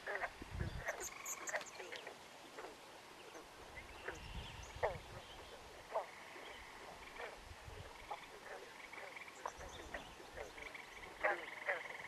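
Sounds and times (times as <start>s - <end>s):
faint wind rumble: 0.0s - 1.2s, 2.2s - 11.3s
frogs calling: 0.0s - 12.0s.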